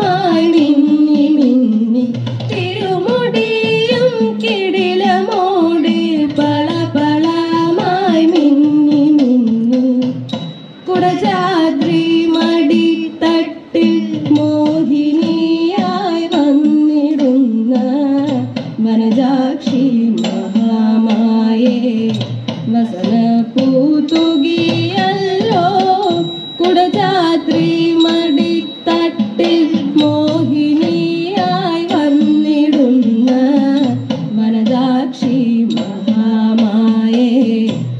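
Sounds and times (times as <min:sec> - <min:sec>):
instrumental accompaniment: 0:00.0 - 0:37.9.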